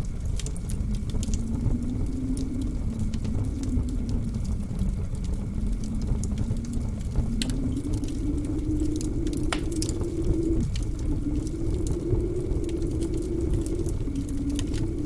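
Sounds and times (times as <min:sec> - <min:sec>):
blizzard wind howling: 0:00.0 - 0:15.0
fire pops: 0:00.0 - 0:15.0
wood fire crackling: 0:00.0 - 0:15.0.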